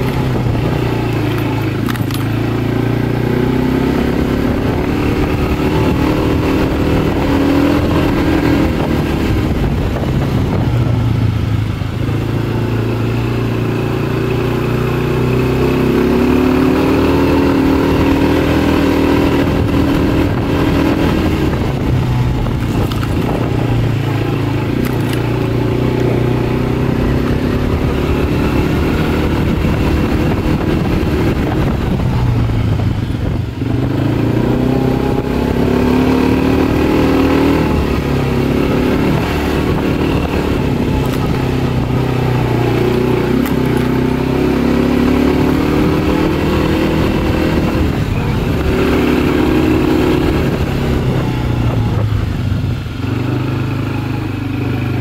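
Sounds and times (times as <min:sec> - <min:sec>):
quad bike engine under load: 0:00.0 - 0:55.0.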